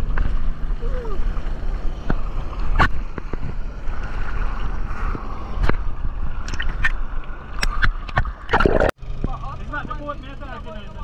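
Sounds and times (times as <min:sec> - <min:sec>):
seawater sloshing: 0:00.0 - 0:09.0
sharp water splashes: 0:00.0 - 0:09.0.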